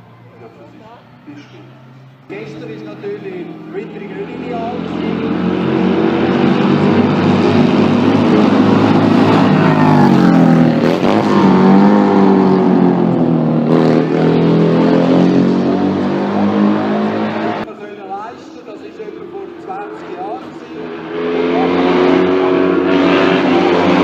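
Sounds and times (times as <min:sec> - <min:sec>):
racing car engine accelerating: 0:01.6 - 0:17.7, 0:19.1 - 0:24.0.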